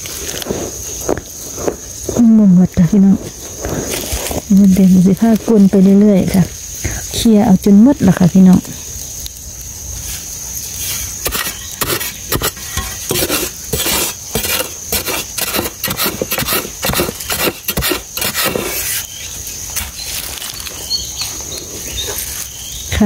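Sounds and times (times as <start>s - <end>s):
hand scraping dry soil: 0.0s - 6.4s, 10.0s - 22.6s.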